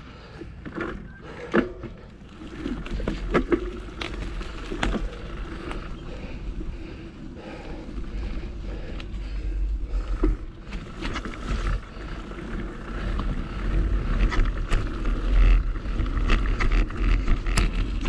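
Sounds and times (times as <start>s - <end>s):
bike rolling over dirt: 0.0s - 18.0s
bike knocking and rattling: 0.1s - 18.0s
wind rumbling on microphone: 1.0s - 18.0s.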